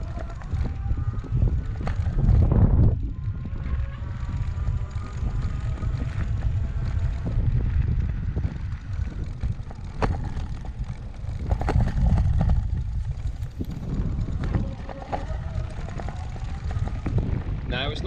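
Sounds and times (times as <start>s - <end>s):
bike knocking and rattling: 0.0s - 18.0s
faint electric motor whine: 0.0s - 18.0s
wind buffeting microphone: 0.0s - 18.0s.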